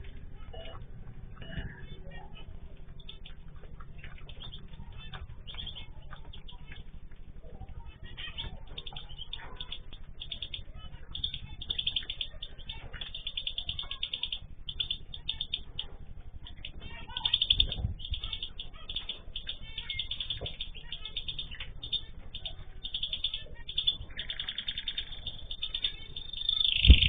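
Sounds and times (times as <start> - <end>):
cage birds chirping: 0.0 - 27.0.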